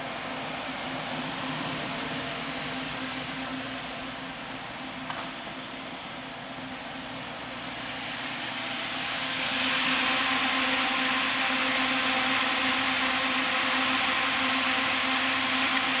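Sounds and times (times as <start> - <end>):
furnace machinery whirring hum: 0.0 - 16.0.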